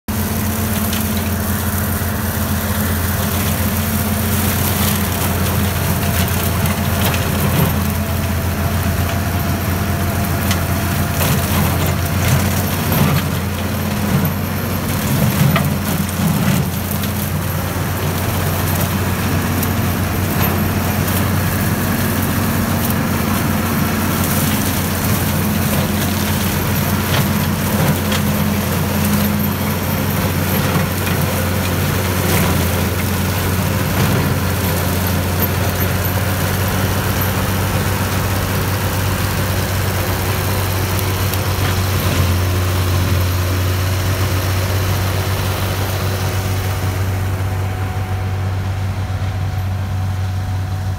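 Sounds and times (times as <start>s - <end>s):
mulcher rotor shredding brush: 0.0s - 50.9s
tractor engine running: 0.0s - 50.9s.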